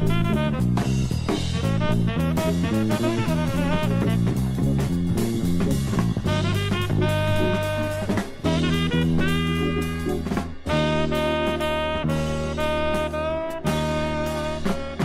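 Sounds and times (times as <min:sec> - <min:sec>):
jazz band music: 0:00.0 - 0:15.0.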